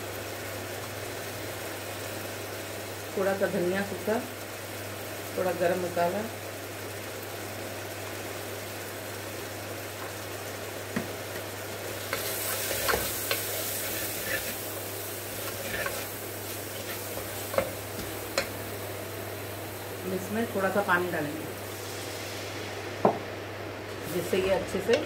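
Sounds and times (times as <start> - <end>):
spices sizzling in a pot: 0.0 - 25.0.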